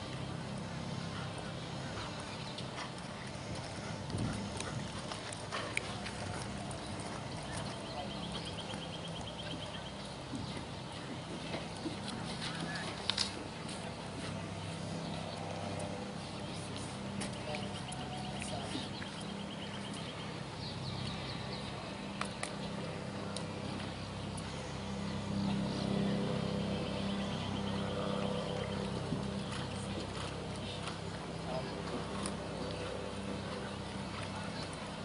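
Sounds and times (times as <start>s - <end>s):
faint distant voices: 0.0s - 35.0s
steady low hum: 0.0s - 35.0s.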